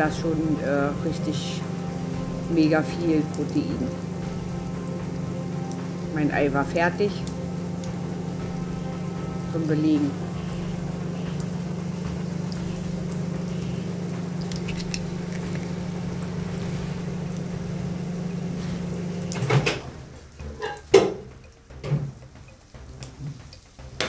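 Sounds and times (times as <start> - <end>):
microwave oven humming: 0.0 - 20.3.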